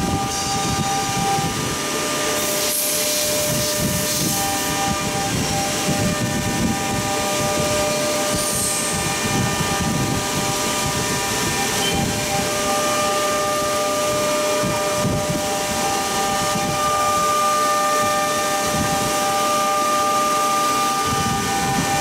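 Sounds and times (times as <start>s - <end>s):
router spindles whining: 0.0s - 22.0s
rough cutting noise: 0.1s - 22.0s.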